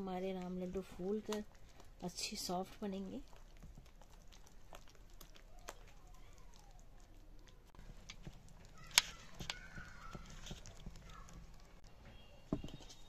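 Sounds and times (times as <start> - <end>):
batter slapping and squelching: 0.0 - 13.0.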